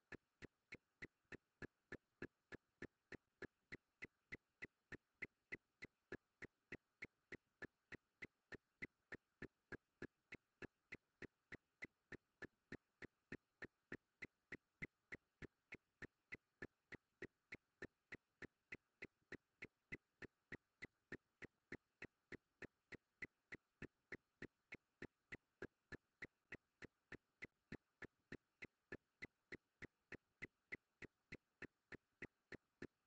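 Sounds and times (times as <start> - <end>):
faint steady ticking: 0.0 - 33.0.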